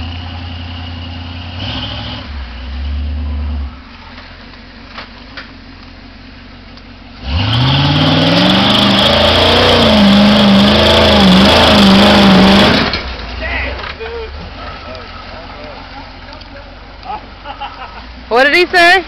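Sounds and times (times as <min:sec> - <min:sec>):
truck engine revving: 0:00.0 - 0:04.2, 0:07.1 - 0:18.3
tires churning through mud: 0:00.0 - 0:06.1, 0:07.0 - 0:19.0.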